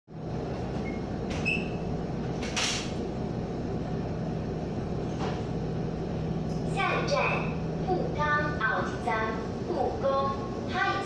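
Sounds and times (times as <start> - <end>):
train running rumble: 0.1 - 11.0.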